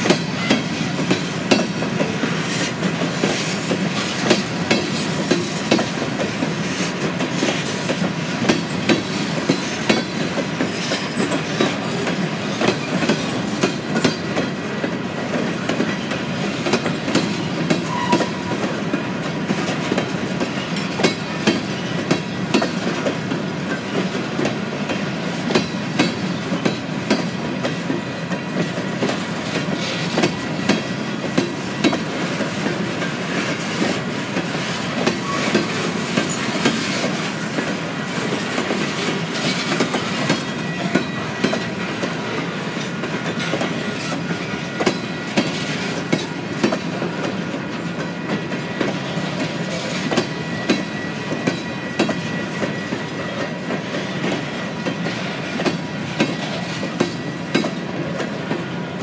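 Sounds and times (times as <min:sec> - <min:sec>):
wheels clacking over rail joints: 0:00.0 - 0:58.6.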